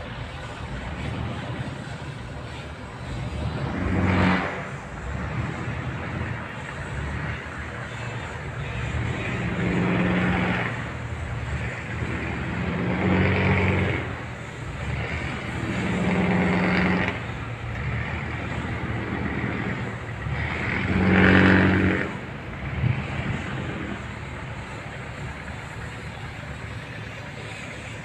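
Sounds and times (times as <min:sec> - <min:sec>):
boat engine revving: 0:00.0 - 0:28.0.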